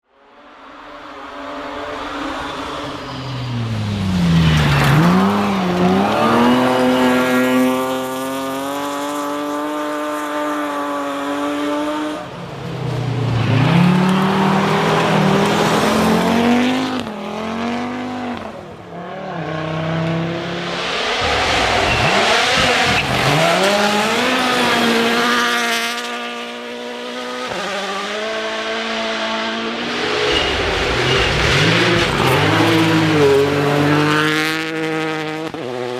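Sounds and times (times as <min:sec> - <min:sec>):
rally cars at full throttle: 0:00.1 - 0:35.9.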